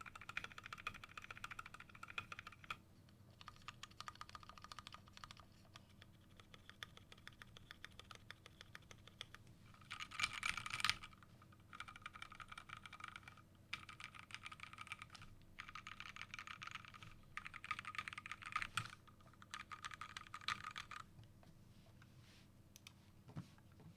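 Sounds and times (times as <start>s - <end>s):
mechanical keyboard typing: 0.0s - 2.8s, 3.4s - 21.0s.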